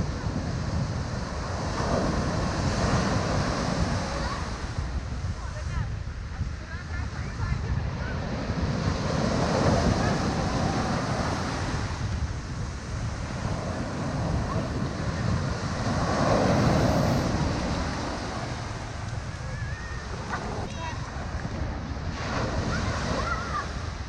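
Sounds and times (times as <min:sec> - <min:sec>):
rushing water: 0:00.0 - 0:24.0
wind buffeting microphone: 0:00.0 - 0:24.0.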